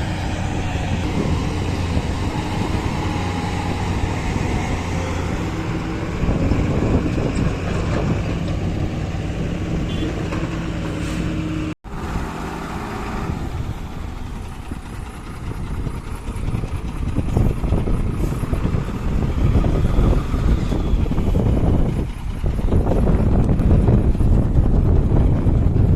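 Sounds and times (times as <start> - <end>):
heavy diesel machinery running: 0.0 - 25.9.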